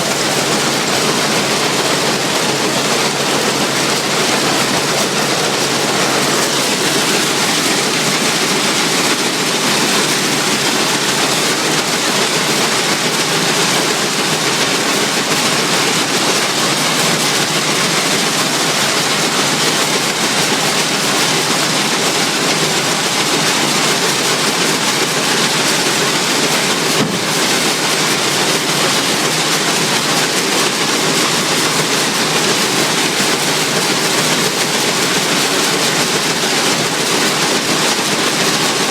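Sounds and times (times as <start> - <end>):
combine harvester rattling: 0.0 - 38.9.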